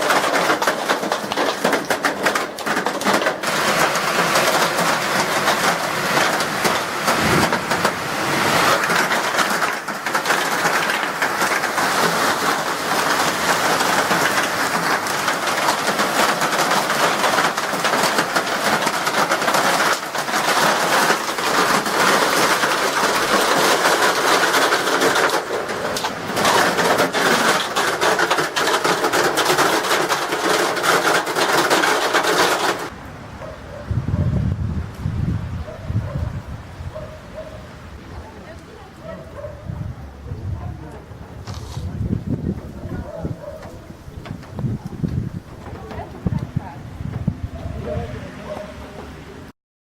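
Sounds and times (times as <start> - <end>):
hailstones drumming on a surface: 0.0 - 33.0, 37.0 - 49.4
rush of storm noise: 0.0 - 49.5.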